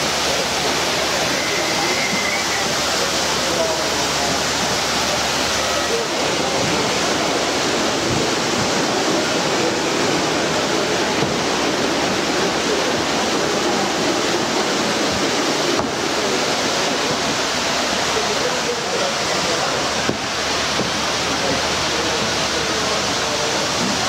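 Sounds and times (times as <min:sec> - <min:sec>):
exhibition hall hubbub: 0:00.0 - 0:24.0.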